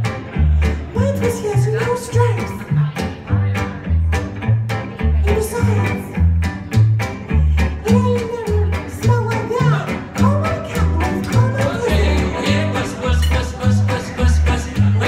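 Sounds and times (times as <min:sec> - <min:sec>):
strummed guitar chords: 0:00.0 - 0:15.0
upright bass: 0:00.0 - 0:15.0.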